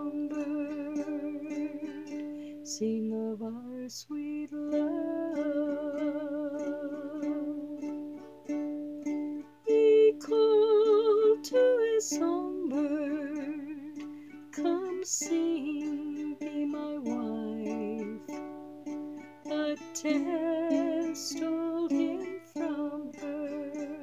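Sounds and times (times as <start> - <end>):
person singing with vibrato: 0.0 - 8.6, 9.4 - 24.0
strummed stringed instrument: 0.0 - 24.0.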